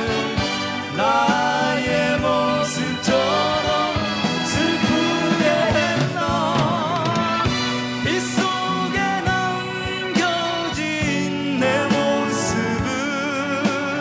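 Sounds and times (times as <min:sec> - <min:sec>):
backing band with drum beat: 0:00.0 - 0:14.0
two men singing a pop ballad: 0:00.0 - 0:14.0.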